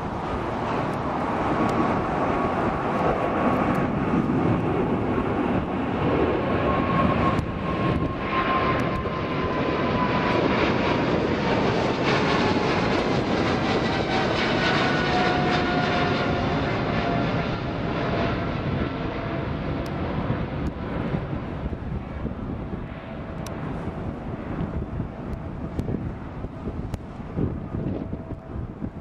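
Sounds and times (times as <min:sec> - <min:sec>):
jet engines roaring overhead: 0:00.0 - 0:29.0.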